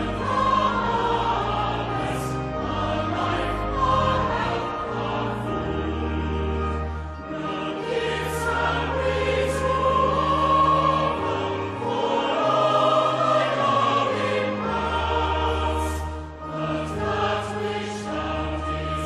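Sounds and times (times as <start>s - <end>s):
choir singing a hymn: 0.0s - 19.0s
instrumental accompaniment: 0.0s - 19.0s.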